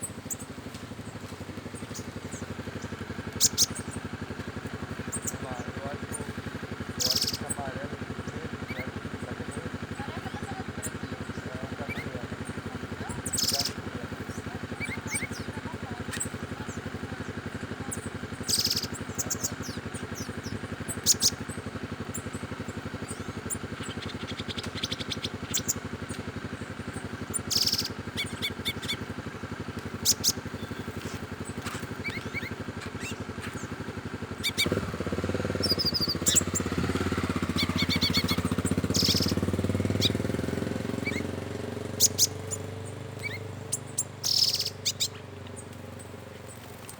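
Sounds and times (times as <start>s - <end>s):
birds chirping and trilling: 0.0s - 46.9s
steady low hum: 0.0s - 46.9s.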